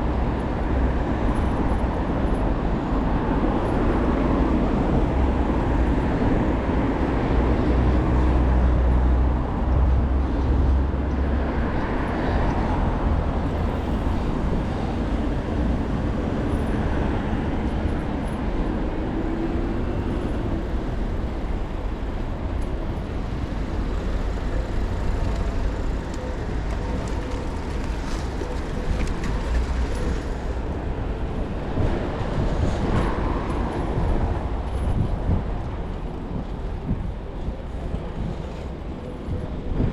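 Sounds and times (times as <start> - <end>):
city street traffic: 0.0 - 39.9
deep rumble: 1.2 - 39.9.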